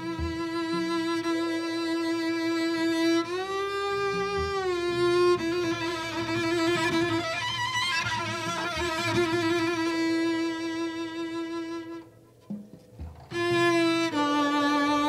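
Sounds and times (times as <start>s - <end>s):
bowed double bass: 0.0s - 15.0s.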